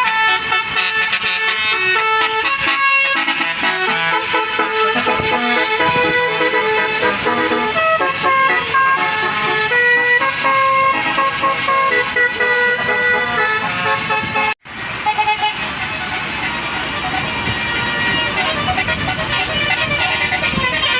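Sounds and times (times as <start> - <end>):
bus horn playing a tune: 0.0 - 20.9
bus noise: 0.0 - 20.9.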